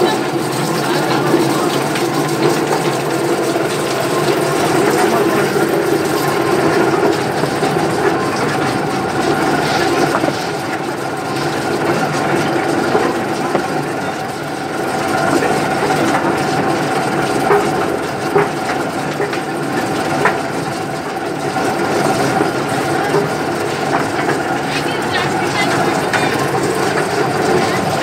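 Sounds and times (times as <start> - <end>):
machine mechanical hum: 0.0 - 28.0.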